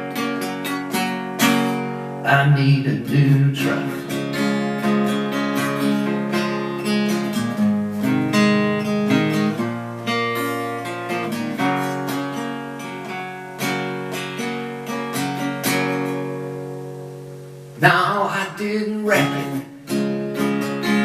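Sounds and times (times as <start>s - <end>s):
acoustic guitar strummed chords: 0.0s - 21.0s.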